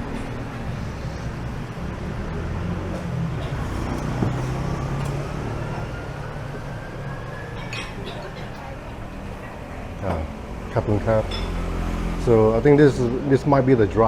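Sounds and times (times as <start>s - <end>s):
vehicle engine rumbling: 0.0s - 13.9s.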